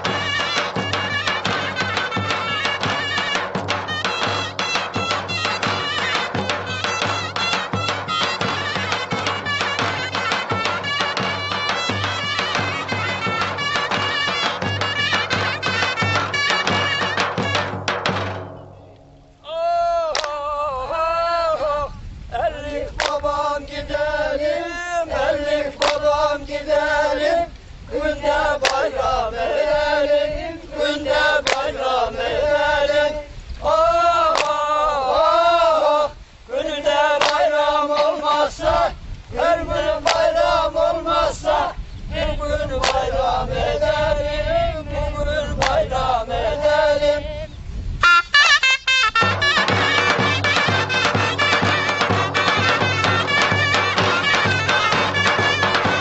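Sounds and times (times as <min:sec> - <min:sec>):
group singing folk song: 0:00.0 - 0:17.8, 0:19.5 - 0:47.5, 0:49.5 - 0:56.0.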